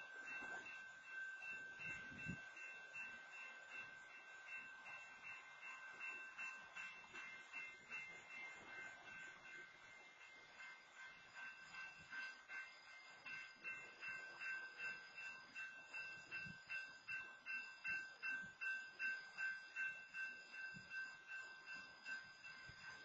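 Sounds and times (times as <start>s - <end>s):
railroad crossing bell ringing: 0.0s - 23.0s.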